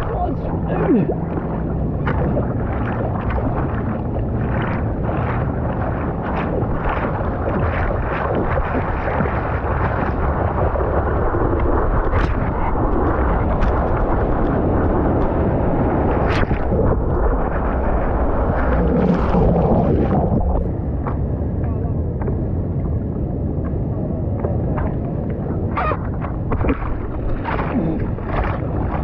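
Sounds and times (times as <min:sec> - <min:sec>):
water lapping against surfboard: 0:00.0 - 0:29.0
wind buffeting microphone: 0:00.0 - 0:29.0.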